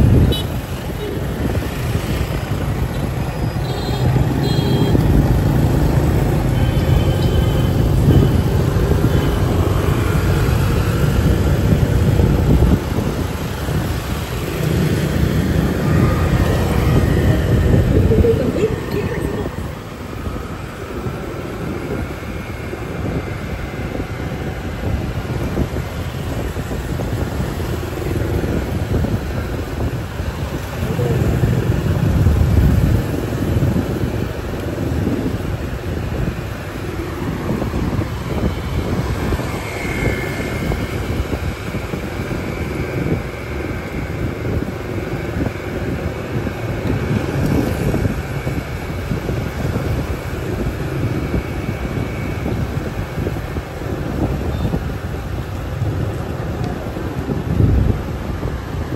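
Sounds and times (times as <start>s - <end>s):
passing traffic: 0.0s - 58.9s
wind on microphone: 0.0s - 58.9s.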